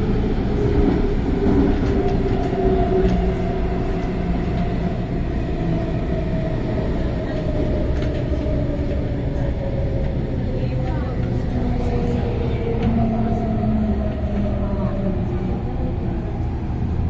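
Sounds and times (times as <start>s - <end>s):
metro train rumble: 0.0s - 17.0s.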